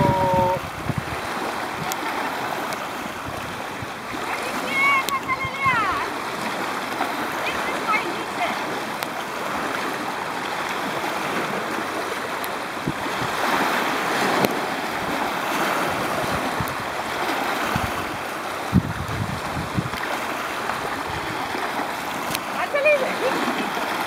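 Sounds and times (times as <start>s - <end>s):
waves lapping on pebble shore: 0.0s - 24.0s.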